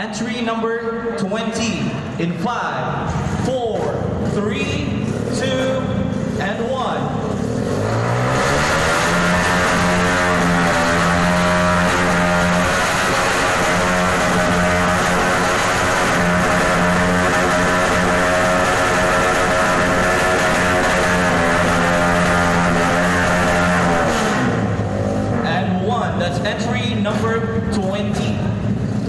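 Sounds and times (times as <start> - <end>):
motorcycle engine revving hard: 2.9 - 29.0.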